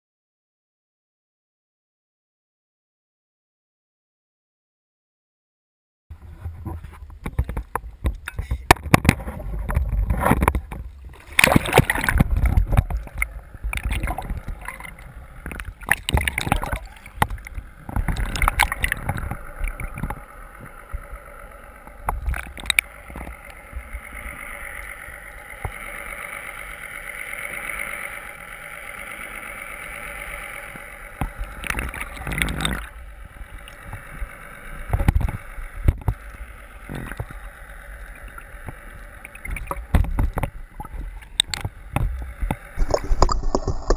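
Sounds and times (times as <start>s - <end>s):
steady hum: 6.1s - 43.9s
water sloshing and gurgling: 6.2s - 28.5s, 29.2s - 43.9s.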